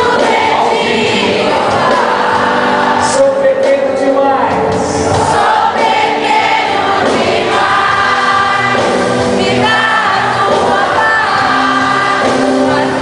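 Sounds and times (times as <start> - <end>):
choir singing a hymn: 0.0 - 3.4, 4.8 - 13.0.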